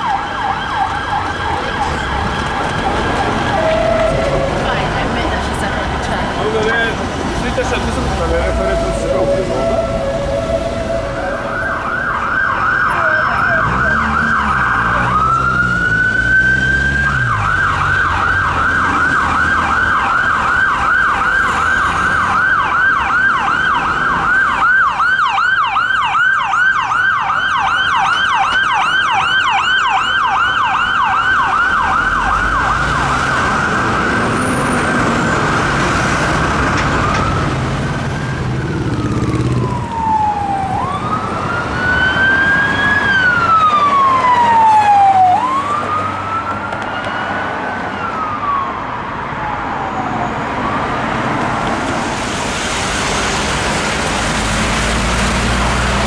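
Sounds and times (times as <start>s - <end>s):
emergency vehicle siren: 0.0s - 56.0s
traffic rumble: 0.0s - 56.0s.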